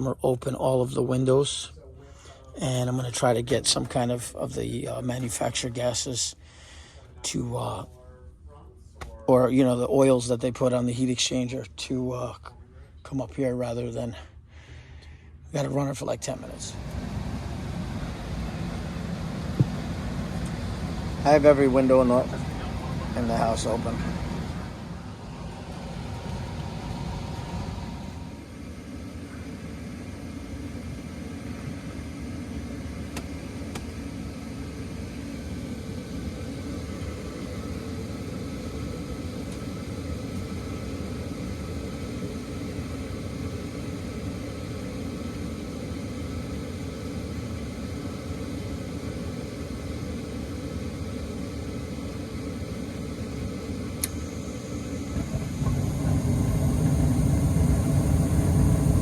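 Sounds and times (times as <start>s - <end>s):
gas furnace running: 0.0s - 59.0s.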